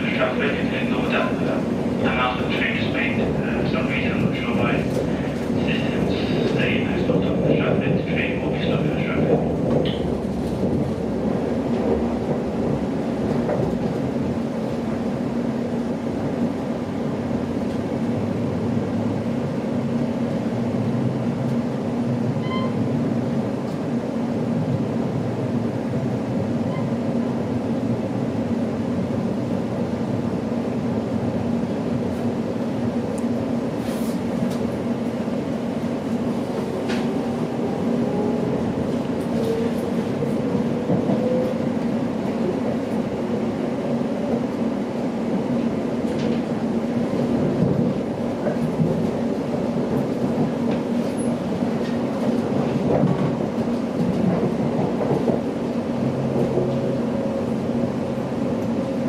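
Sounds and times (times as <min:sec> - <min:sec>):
train hum: 0:00.0 - 0:59.0
train wheels rumbling on track: 0:00.0 - 0:59.0.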